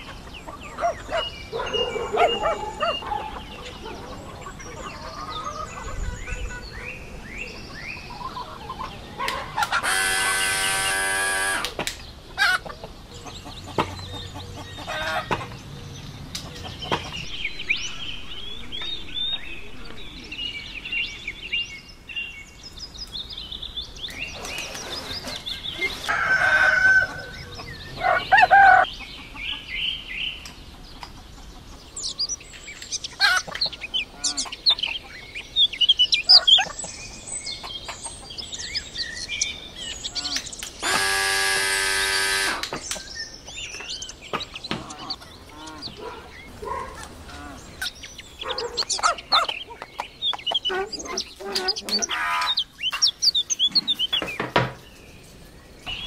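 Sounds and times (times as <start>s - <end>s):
birds calling and chirping: 0.0s - 56.0s.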